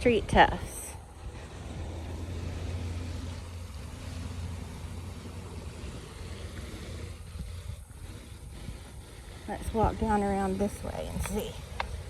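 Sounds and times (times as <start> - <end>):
passing motor vehicle rumble: 0.0 - 12.0.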